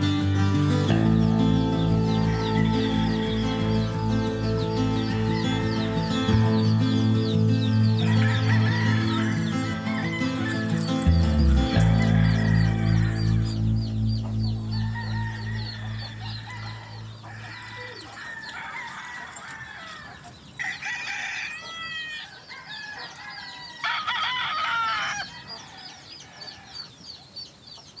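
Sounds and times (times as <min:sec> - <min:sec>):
roosters crowing: 0:00.0 - 0:27.0
small birds chirping: 0:00.0 - 0:28.0.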